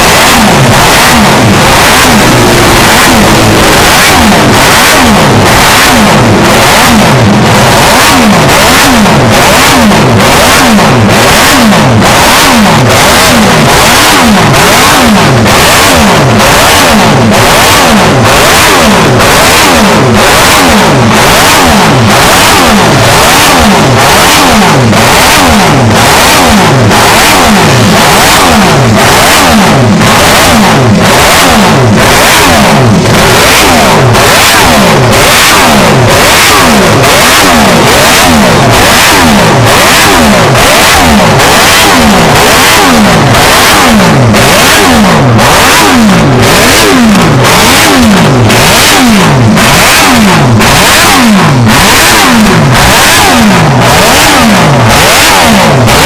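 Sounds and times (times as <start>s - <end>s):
racing motorcycle engine revving: 0.0s - 56.0s.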